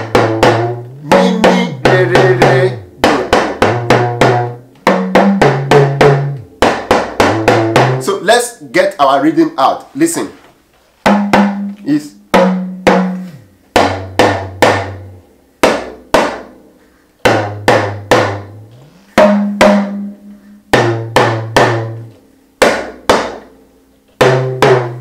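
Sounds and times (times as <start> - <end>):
talking drum struck with stick: 0.0 - 8.3, 11.1 - 16.6, 17.2 - 23.5, 24.2 - 25.0.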